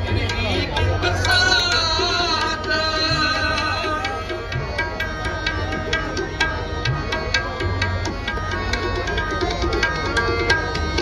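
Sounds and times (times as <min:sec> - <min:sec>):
tabla: 0:00.0 - 0:11.0.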